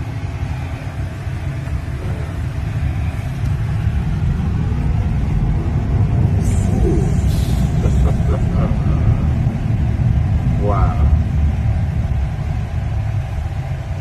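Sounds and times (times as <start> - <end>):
road and tyre rumble in cabin: 0.0 - 14.0.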